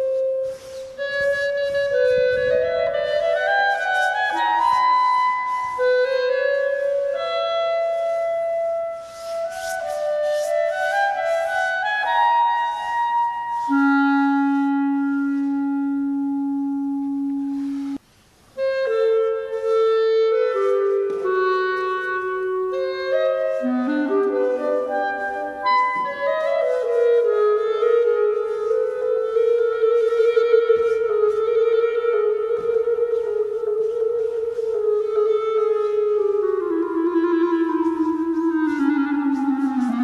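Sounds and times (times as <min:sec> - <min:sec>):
solo clarinet: 0:00.0 - 0:40.0.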